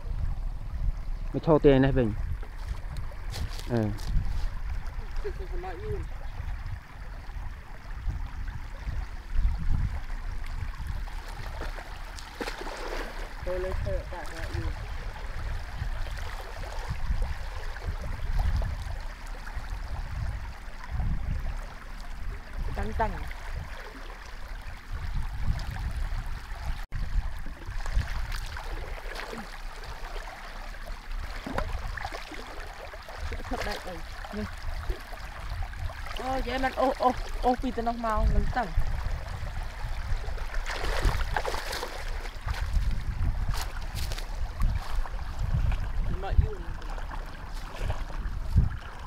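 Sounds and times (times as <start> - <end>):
floodwater rushing in a stream: 0.0 - 49.0.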